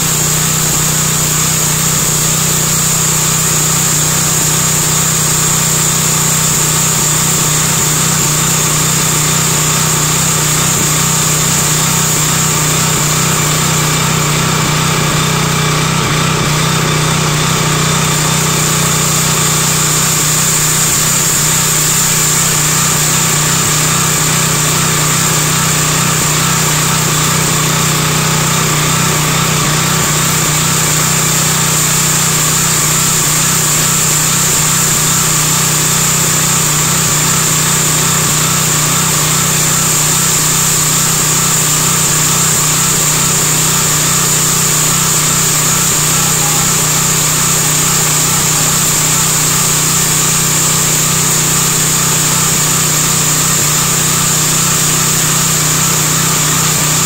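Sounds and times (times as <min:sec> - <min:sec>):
bandsaw blade whine: 0:00.0 - 0:57.0
small engine running under load: 0:00.0 - 0:57.0.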